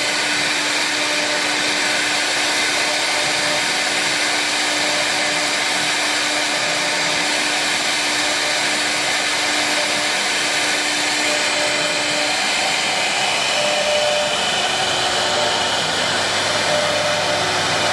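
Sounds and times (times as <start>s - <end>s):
router spindle whirring: 0.0s - 17.9s.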